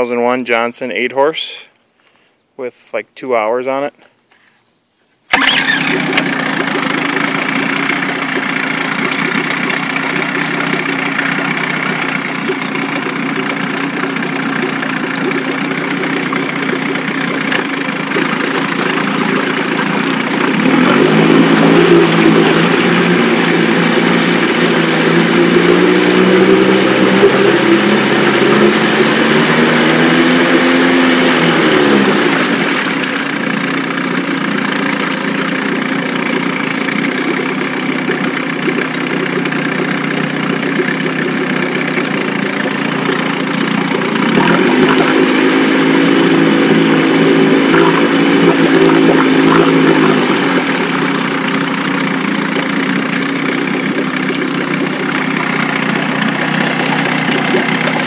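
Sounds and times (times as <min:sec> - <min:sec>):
outboard motor running: 0:05.3 - 0:58.0
propeller churning water: 0:05.3 - 0:58.0.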